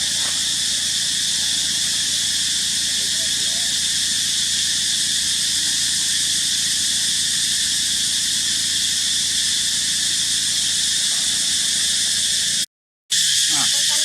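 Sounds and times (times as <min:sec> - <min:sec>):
high-pitched outdoor hiss: 0:00.0 - 0:14.0.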